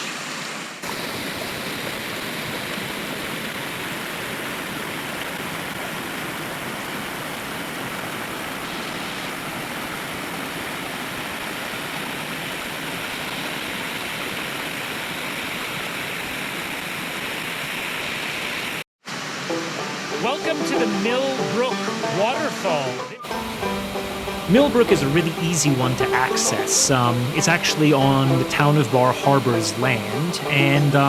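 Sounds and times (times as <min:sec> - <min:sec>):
small waterfall splashing: 0:00.0 - 0:31.0.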